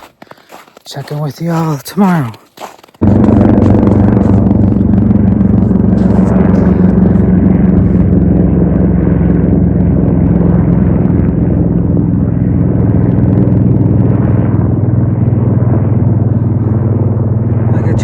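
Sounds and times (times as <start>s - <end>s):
road rumble: 3.0s - 18.0s
vehicle engine drone: 3.0s - 18.0s.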